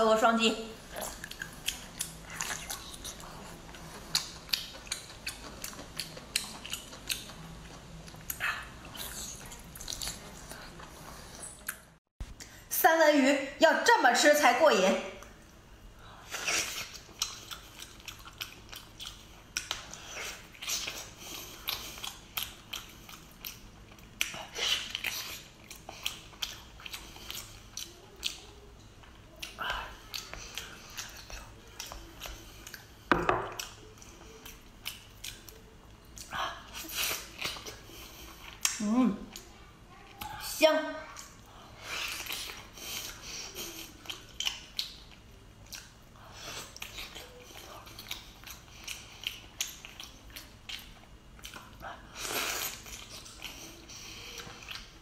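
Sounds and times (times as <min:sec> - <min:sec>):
chewing with wet clicks: 0:00.9 - 0:10.9, 0:11.6 - 0:12.0, 0:16.7 - 0:40.4, 0:41.1 - 0:41.5, 0:42.1 - 0:51.9, 0:52.6 - 0:55.0.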